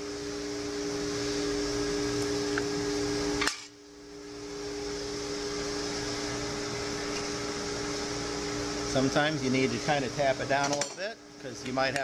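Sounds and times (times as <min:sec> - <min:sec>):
fan hum with hiss: 0:00.0 - 0:12.0.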